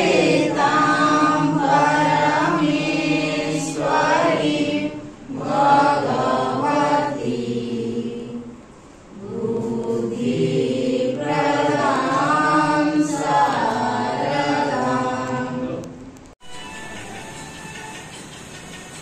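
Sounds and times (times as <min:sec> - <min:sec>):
voices singing a chant: 0:00.0 - 0:16.0.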